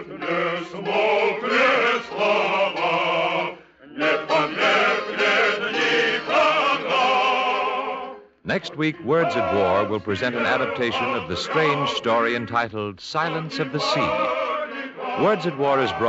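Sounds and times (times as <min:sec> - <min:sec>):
chorus singing sustained notes: 0:00.0 - 0:16.0.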